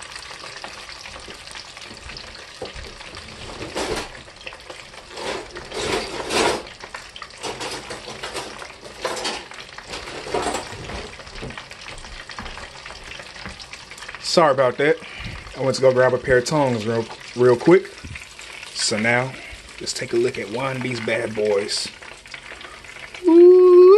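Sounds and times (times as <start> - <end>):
oil sizzling and crackling: 0.0 - 23.9.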